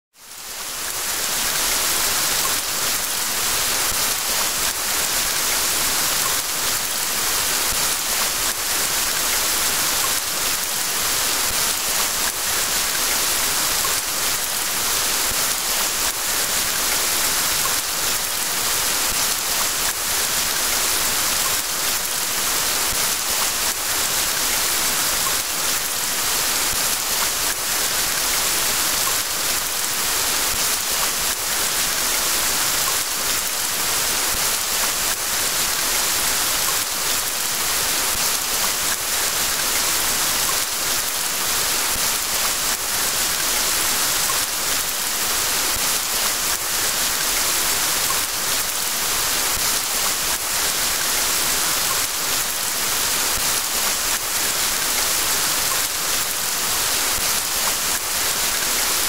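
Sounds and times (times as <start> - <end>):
steady rain falling: 0.2 - 59.0.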